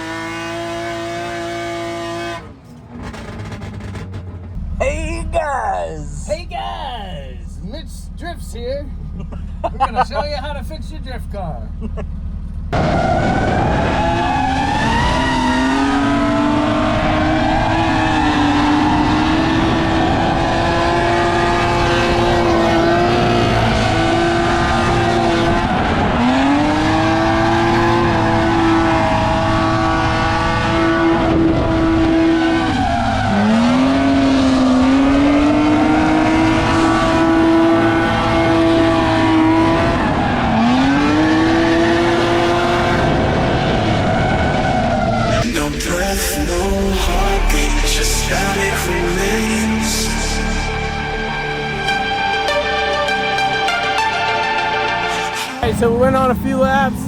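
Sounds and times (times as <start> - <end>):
tires squealing: 0.0 - 5.6, 11.7 - 45.5, 46.2 - 57.0
car engine at high revs: 0.0 - 57.0.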